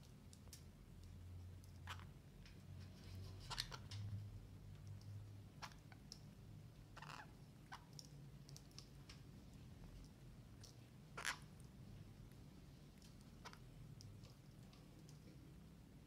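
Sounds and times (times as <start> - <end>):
parakeets pecking at food: 0.0 - 15.9.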